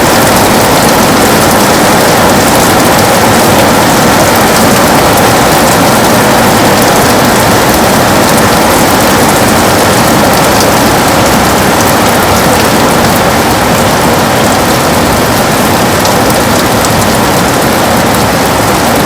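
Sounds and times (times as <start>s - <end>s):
heavy rain on a window: 0.0s - 19.0s.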